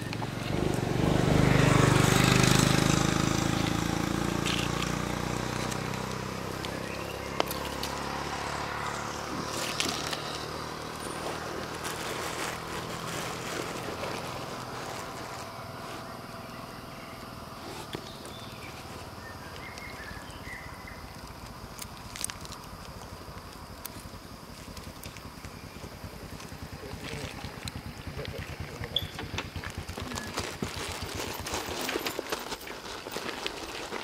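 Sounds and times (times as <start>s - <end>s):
vehicle engine passing: 0.0s - 31.1s.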